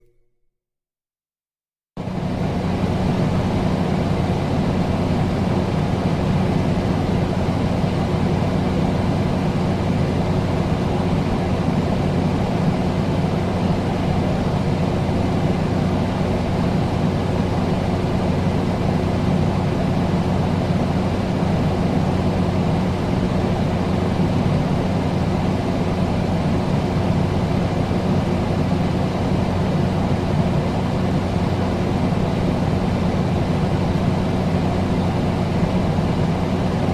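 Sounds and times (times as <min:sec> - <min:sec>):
air conditioner running: 0:02.0 - 0:36.9.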